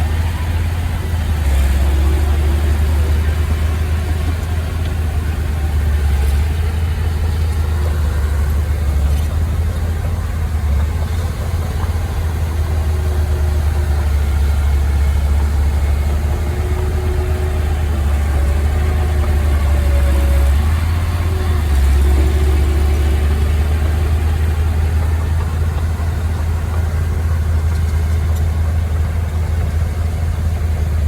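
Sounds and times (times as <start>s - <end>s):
heavy machinery engine droning: 0.0s - 31.0s.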